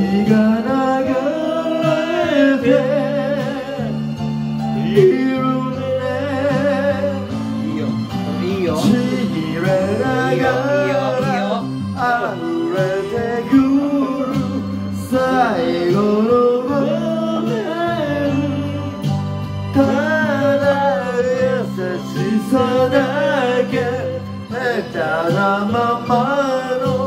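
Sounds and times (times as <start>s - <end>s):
man singing into microphone: 0.0s - 27.0s
rock ballad backing track: 0.0s - 27.0s.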